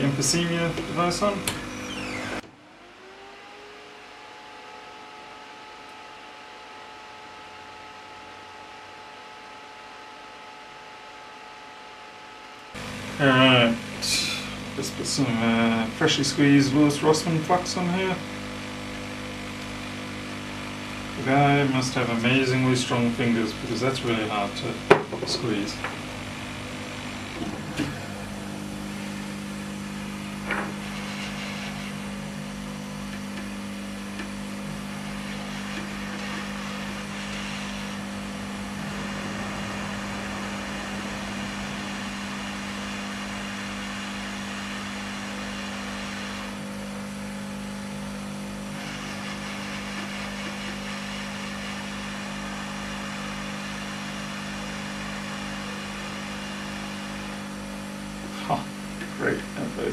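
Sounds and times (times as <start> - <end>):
fan hum and air noise: 0.0 - 2.5, 4.0 - 59.9.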